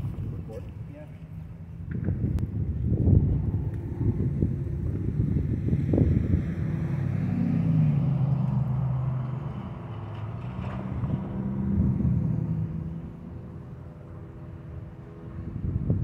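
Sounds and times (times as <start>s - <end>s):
vehicles driving past: 0.0s - 16.0s.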